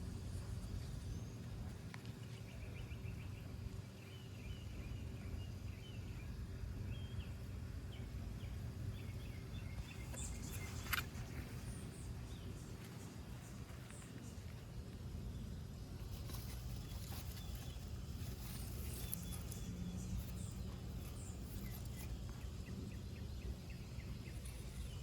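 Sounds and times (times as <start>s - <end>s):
low background rumble: 0.0s - 25.0s
small birds chirping: 0.0s - 25.0s.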